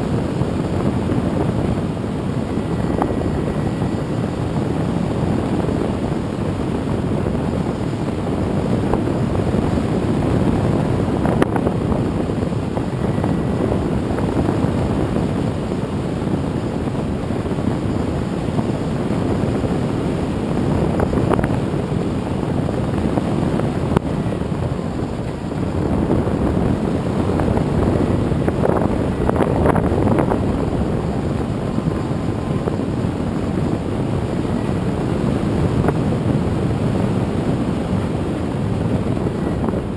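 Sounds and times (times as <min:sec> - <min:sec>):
model airplane propeller: 0:00.0 - 0:39.9
wind rushing over microphone: 0:00.0 - 0:39.9.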